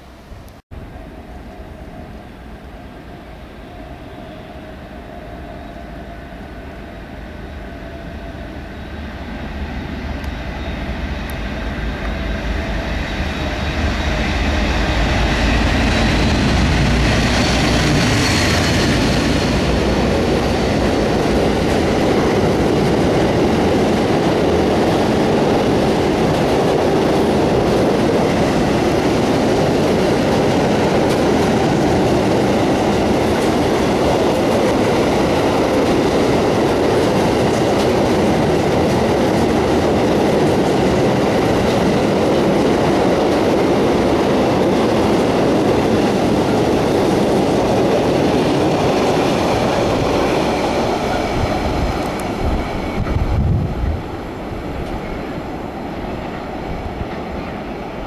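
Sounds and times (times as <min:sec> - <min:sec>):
diesel locomotive engine: 0:00.8 - 0:58.0.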